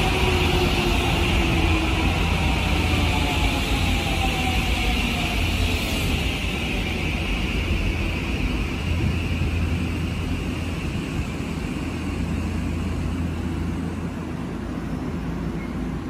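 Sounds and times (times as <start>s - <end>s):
electric train low hum: 0.0s - 16.0s.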